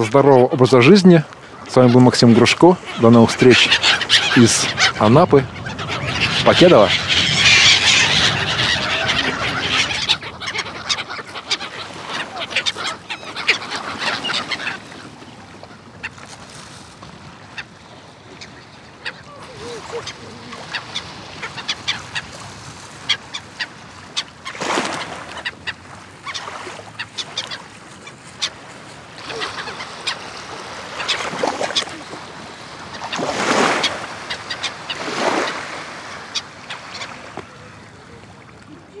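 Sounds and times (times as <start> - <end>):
gulls and swans calling: 0.0 - 16.3, 17.0 - 39.0
small waves washing ashore: 0.0 - 39.0.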